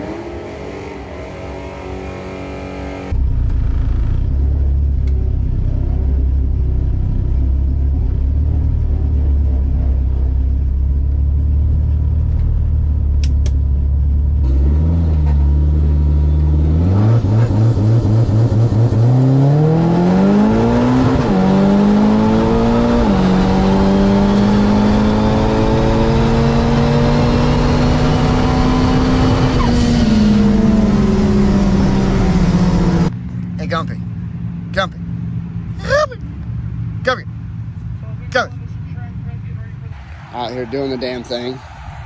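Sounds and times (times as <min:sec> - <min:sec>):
drag racing car engine: 0:00.0 - 0:42.0.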